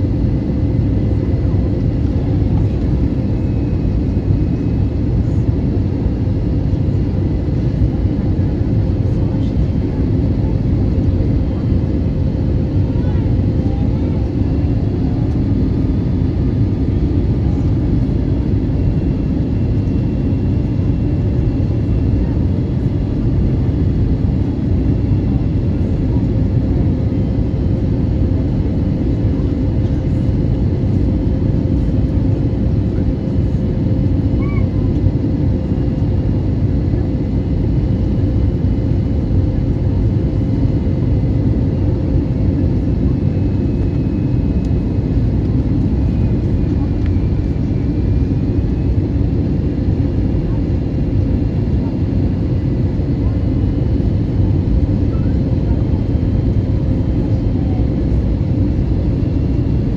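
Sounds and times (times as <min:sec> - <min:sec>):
airplane cabin engine and airflow rush: 0:00.0 - 0:59.9.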